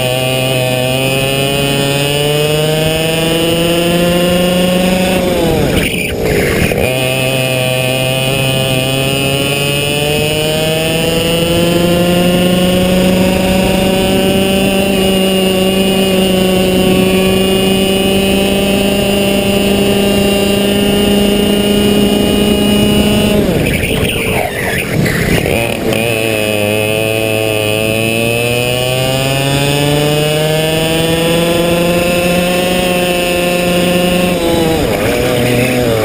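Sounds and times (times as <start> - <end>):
two-stroke kart engine revving: 0.0 - 36.0.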